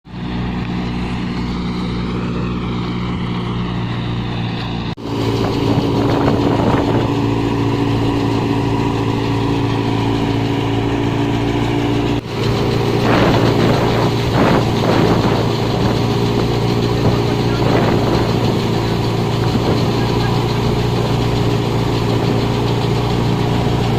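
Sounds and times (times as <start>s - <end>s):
engine running steadily: 0.0s - 23.9s.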